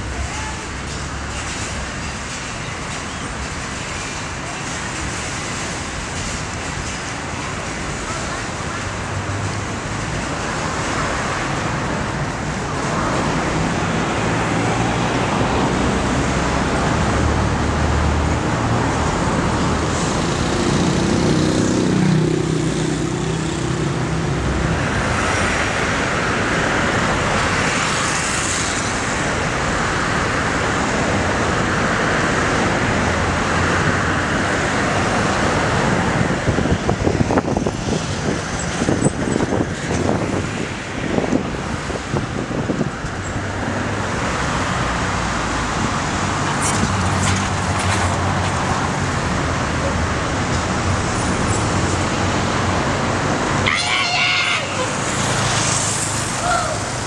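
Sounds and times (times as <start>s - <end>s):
bus passing close: 0.0s - 57.0s
cars driving past: 8.9s - 57.0s.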